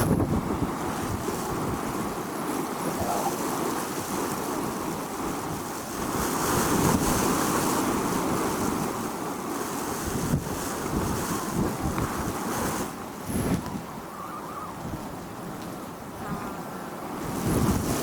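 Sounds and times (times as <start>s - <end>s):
strong wind howling: 0.0s - 9.0s, 9.9s - 18.0s.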